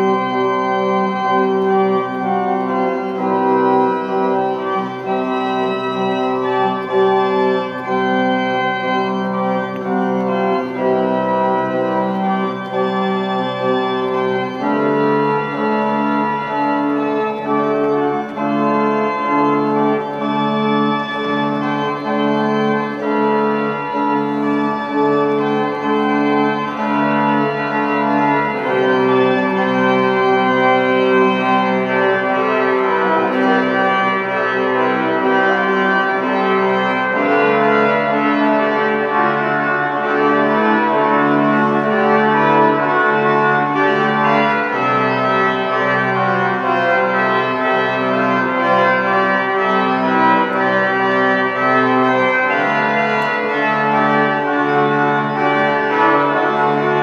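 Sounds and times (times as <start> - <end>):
pipe organ playing chords: 0.0 - 57.0.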